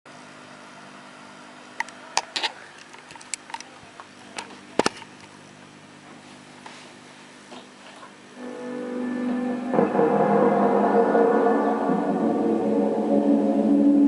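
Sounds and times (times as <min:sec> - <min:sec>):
amplifier hum and hiss: 0:00.1 - 0:14.0.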